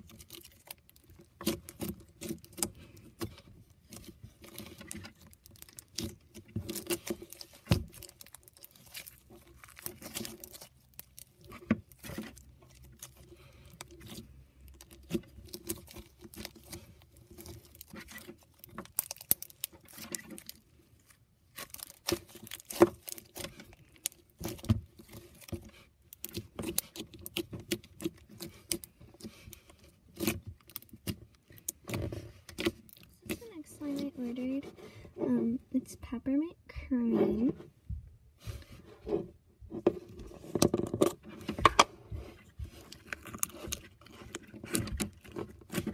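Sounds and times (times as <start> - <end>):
crunchy slime crackling: 0.0 - 34.6, 42.6 - 45.9.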